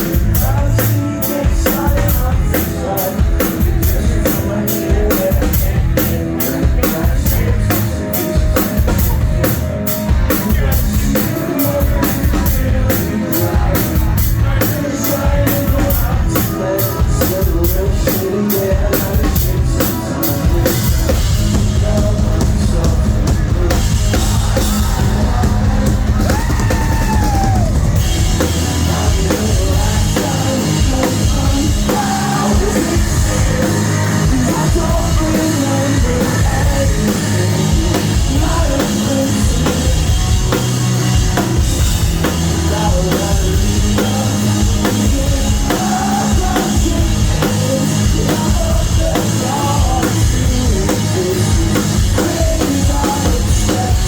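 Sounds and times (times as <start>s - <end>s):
guitars: 0.0s - 54.0s
live rock band playing: 0.0s - 54.0s
pounding drum kit: 0.0s - 54.0s
sung vocals: 0.0s - 54.0s.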